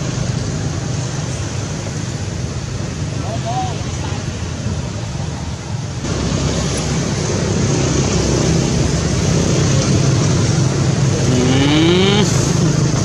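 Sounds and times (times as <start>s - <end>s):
loud rushing noise: 0.0s - 13.0s
vehicle engine humming: 0.0s - 13.0s.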